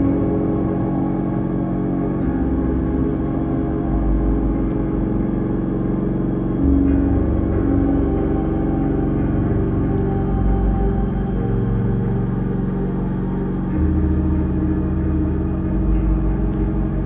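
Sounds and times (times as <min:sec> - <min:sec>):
ambient synthesizer drones: 0:00.0 - 0:17.0
deep synth bass note: 0:00.0 - 0:17.0.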